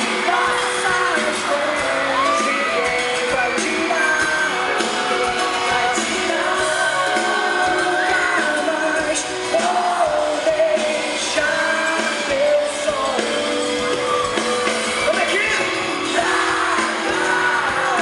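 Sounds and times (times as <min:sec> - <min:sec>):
sung vocals holding long notes: 0:00.0 - 0:14.2, 0:15.9 - 0:18.0
live pop band playing: 0:00.0 - 0:18.0.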